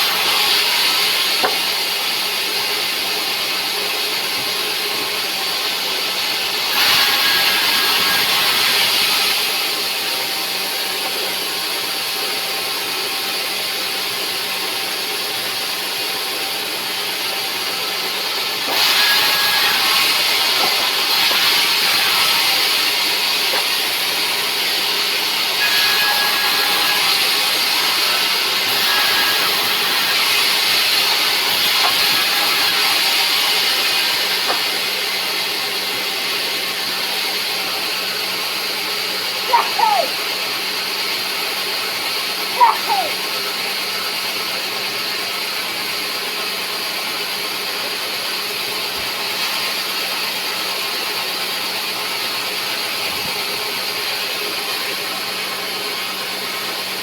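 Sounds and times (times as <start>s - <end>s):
sawmill saw cutting wood: 0.0s - 57.0s.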